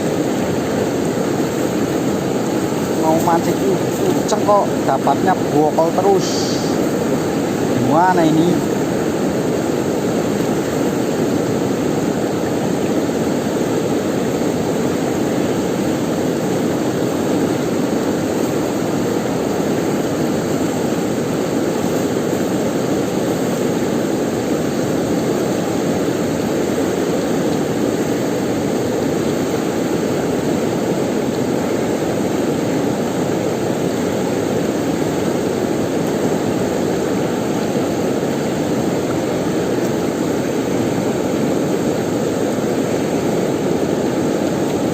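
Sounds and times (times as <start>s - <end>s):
river water flowing over rocks: 0.0s - 44.9s.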